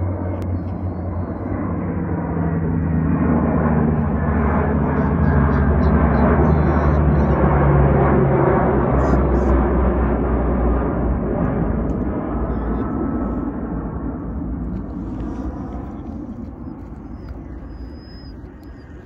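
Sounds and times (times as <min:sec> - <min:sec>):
propeller planes droning overhead: 0:00.0 - 0:19.0.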